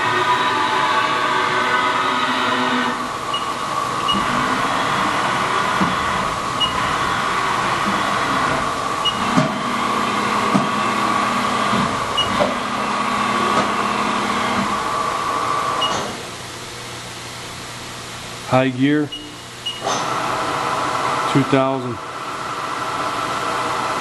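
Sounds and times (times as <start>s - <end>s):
machine whine: 0.0s - 24.0s.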